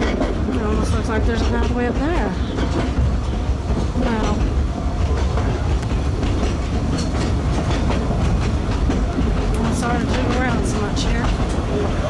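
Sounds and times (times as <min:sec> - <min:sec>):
train rumbling along track: 0:00.0 - 0:12.0
wheels clicking over rail joints: 0:00.0 - 0:12.0.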